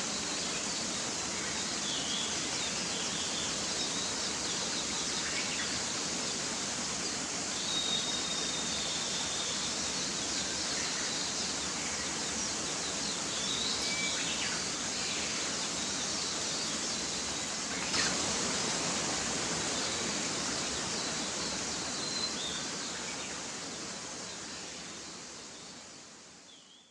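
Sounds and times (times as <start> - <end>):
mountain stream rushing: 0.0 - 26.4.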